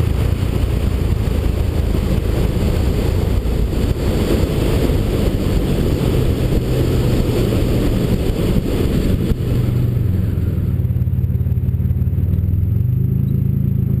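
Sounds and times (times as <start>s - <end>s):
loud rushing wind noise: 0.0s - 12.0s
car engine at low revs: 0.0s - 14.0s.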